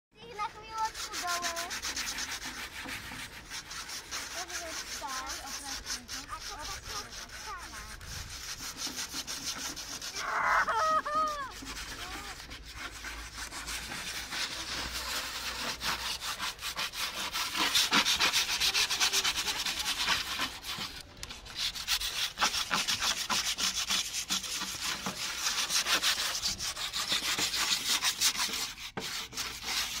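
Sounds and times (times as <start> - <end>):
sandpaper rasping on wood: 0.2 - 30.0.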